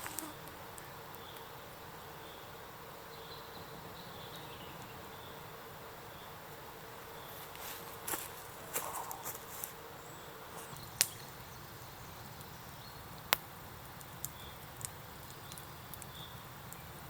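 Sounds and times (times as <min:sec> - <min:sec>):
insect buzz: 0:00.0 - 0:17.0.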